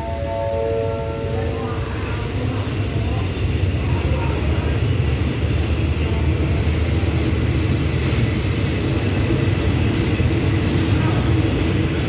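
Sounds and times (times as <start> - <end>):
train coaches rumbling past: 0.0 - 12.0.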